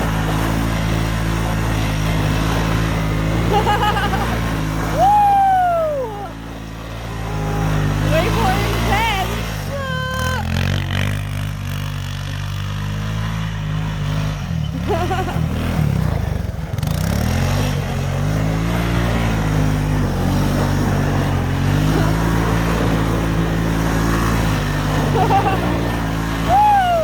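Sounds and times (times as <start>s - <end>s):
quad bike engine revving: 0.0s - 27.0s.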